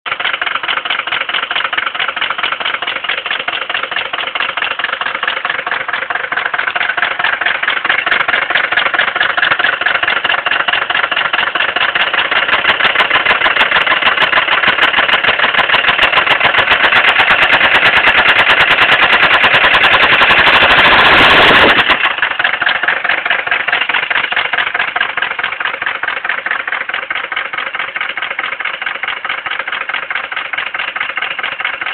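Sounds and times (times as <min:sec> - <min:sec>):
diesel engine with rod knock: 0:00.1 - 0:31.9.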